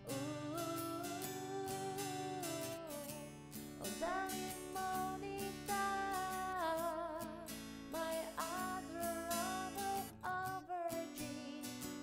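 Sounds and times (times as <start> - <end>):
gentle acoustic guitar song: 0.0 - 12.0.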